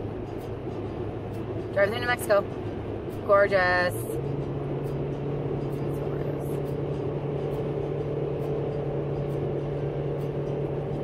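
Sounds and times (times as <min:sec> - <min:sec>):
car engine drone: 0:00.0 - 0:11.0
tyre and road rumble: 0:00.0 - 0:11.0.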